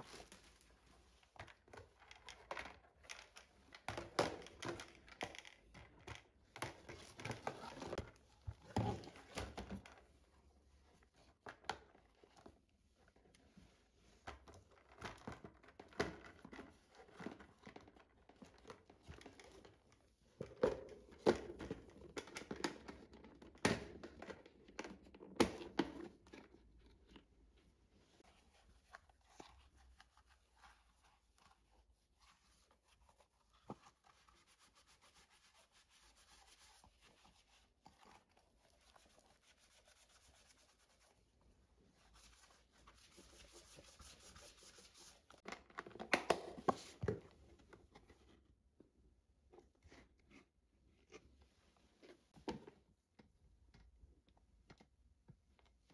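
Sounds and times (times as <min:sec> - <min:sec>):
rustling and crinkling: 0:00.0 - 0:48.6.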